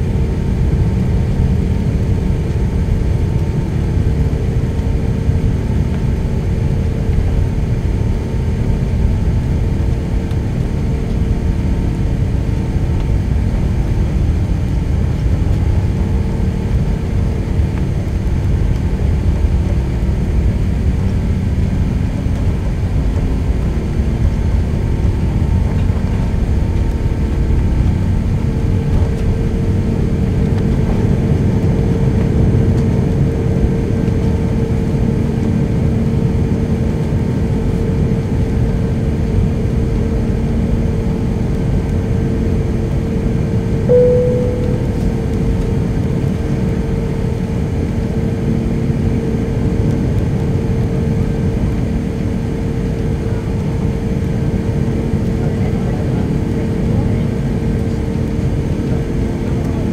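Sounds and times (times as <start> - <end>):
constant hum: 0.0 - 59.9.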